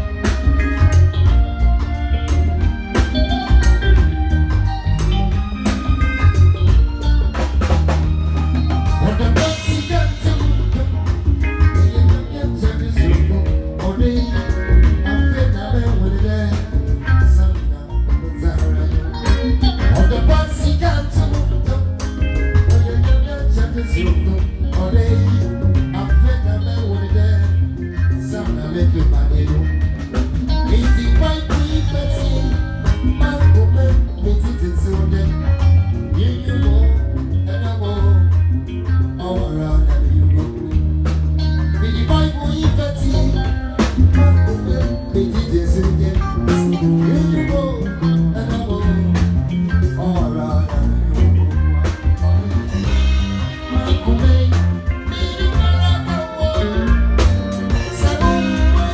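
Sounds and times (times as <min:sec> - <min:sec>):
band playing upbeat music: 0:00.0 - 0:58.9
drum kit: 0:00.0 - 0:58.9
heavy bass: 0:00.0 - 0:58.9.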